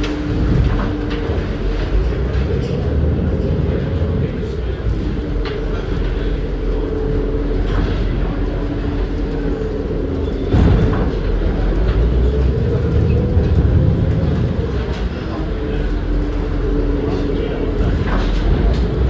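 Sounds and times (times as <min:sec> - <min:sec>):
steady drone: 0:00.0 - 0:19.0
strong wind buffeting microphone: 0:00.0 - 0:19.0.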